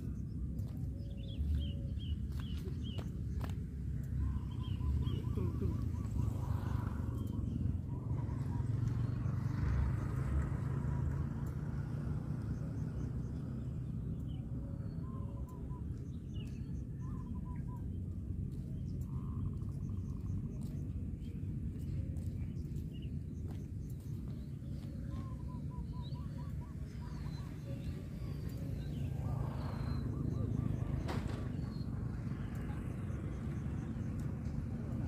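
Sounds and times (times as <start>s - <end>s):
small birds chirping: 0.0s - 35.0s
steady low rumble: 0.0s - 35.0s.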